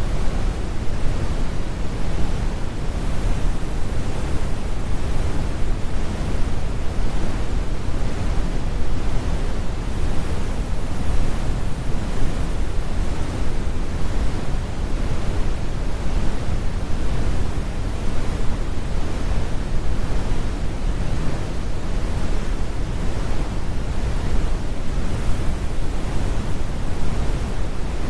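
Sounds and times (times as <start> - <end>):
deep brown noise: 0.0 - 28.0.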